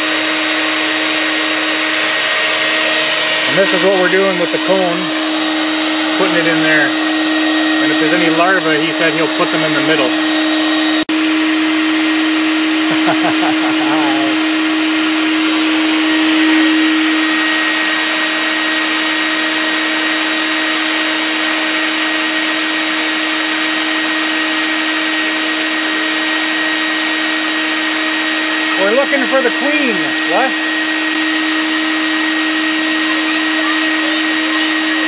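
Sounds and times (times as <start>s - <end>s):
vacuum motor humming: 0.0s - 35.0s.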